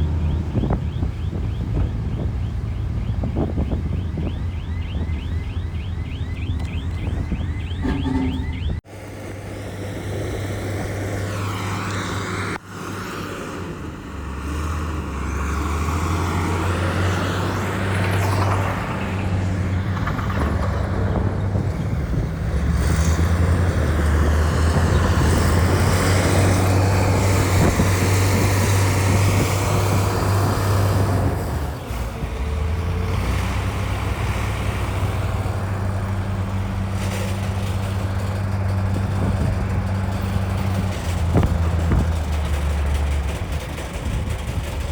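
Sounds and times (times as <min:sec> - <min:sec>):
heavy diesel engine under load: 0:00.0 - 0:44.9.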